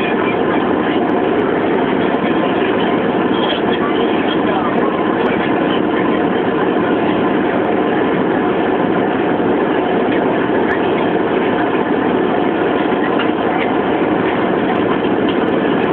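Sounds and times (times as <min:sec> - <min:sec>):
hovercraft engines droning: 0:00.0 - 0:15.9.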